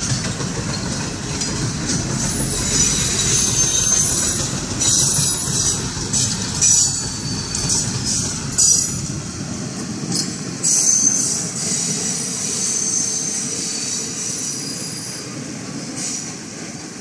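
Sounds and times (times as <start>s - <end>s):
train rumble: 0.0s - 17.0s
train wheels squealing on rails: 0.0s - 17.0s.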